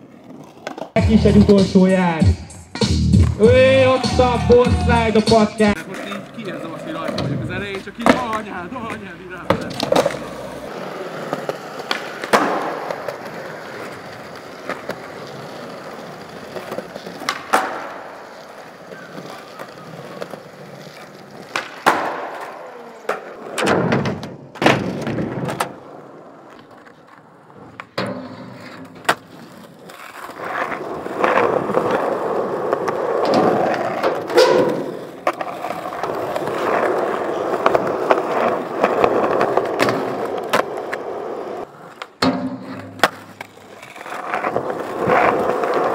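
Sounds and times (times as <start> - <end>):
skateboard clacks: 0.0 - 1.6, 3.2 - 45.9
skateboard wheels rolling: 0.0 - 2.2, 3.2 - 45.9.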